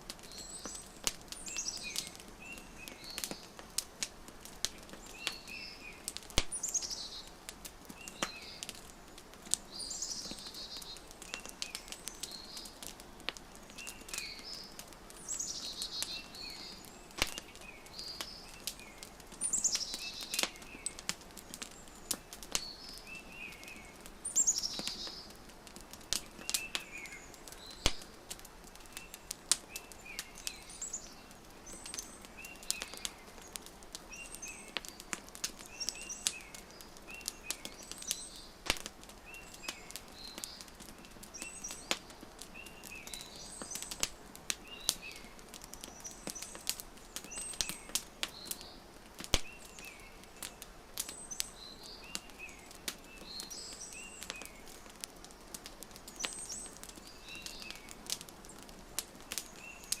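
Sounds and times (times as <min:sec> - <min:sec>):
wood fire crackling: 0:00.0 - 1:00.0
songbirds calling: 0:00.1 - 1:00.0.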